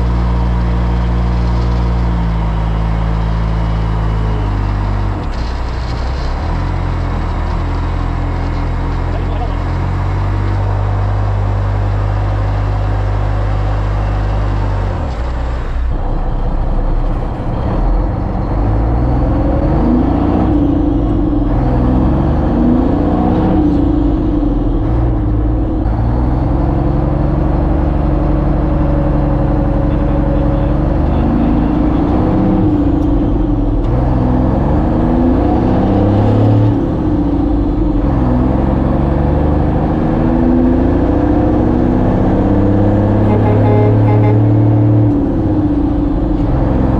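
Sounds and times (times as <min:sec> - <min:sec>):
vehicle engine accelerating: 0:00.0 - 0:46.9.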